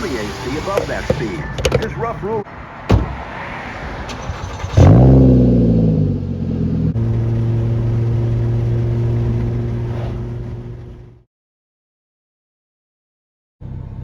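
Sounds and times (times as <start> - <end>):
car engine starting and idling: 0.0 - 11.2.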